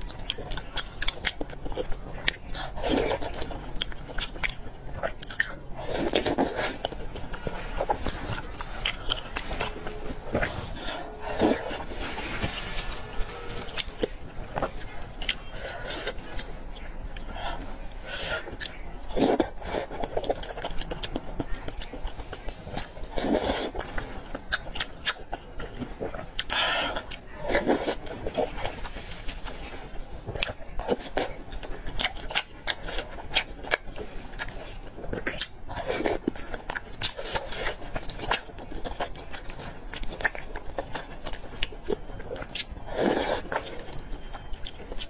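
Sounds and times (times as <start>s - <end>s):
wet chewing with lip smacks: 0.0s - 45.0s.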